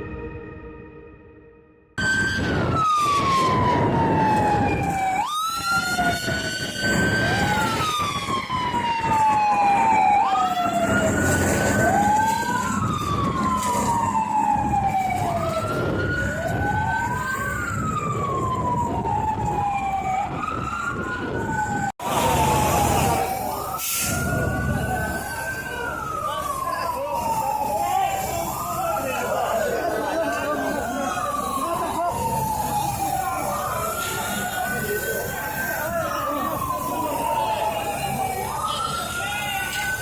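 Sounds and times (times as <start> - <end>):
emergency sirens wailing: 0.0 - 40.0
traffic rumble: 2.0 - 40.0.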